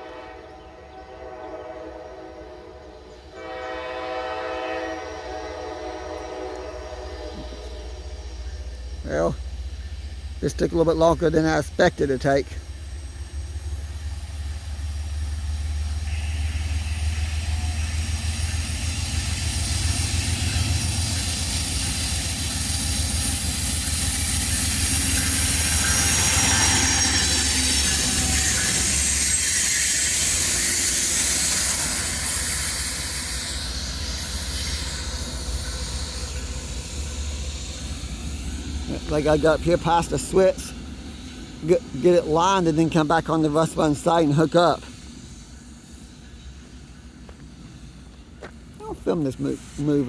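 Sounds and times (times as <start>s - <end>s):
train wheel squeal: 0.0s - 48.6s
train engine rumble: 0.0s - 50.0s
train hiss: 0.0s - 50.0s.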